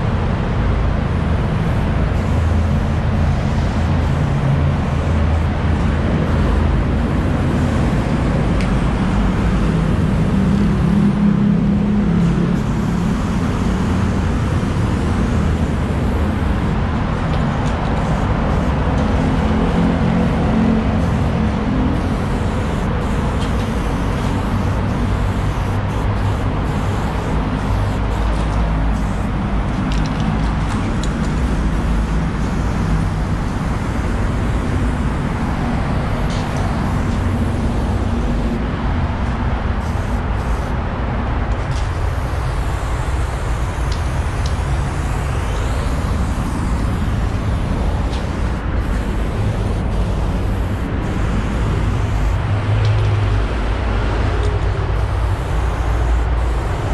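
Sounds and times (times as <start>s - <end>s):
steady low rumble: 0.0s - 52.4s
spray paint can hissing: 1.0s - 38.6s, 39.2s - 52.6s, 54.7s - 56.9s.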